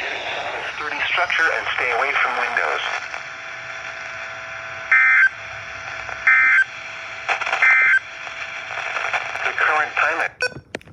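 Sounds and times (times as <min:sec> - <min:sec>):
radio hiss: 0:00.0 - 0:10.4.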